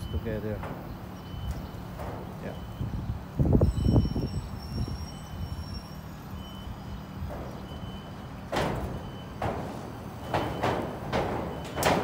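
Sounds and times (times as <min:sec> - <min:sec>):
footsteps clanking on metal: 0:00.0 - 0:12.0.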